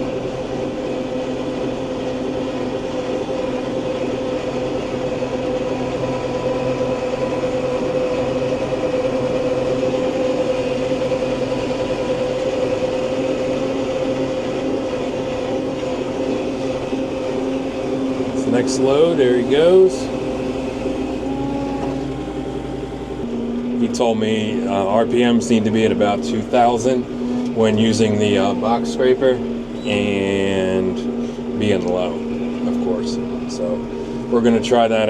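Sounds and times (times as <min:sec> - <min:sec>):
steady high hum: 0:00.0 - 0:35.0
tractor diesel engine drone: 0:00.0 - 0:35.0.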